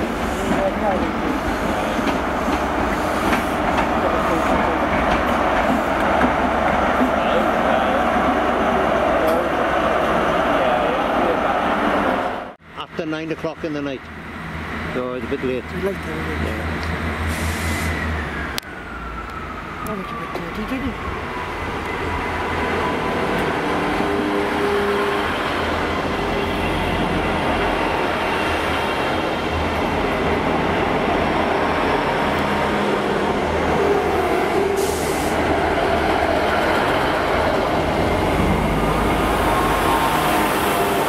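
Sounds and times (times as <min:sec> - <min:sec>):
diesel train rumbling past: 0:00.0 - 0:41.0.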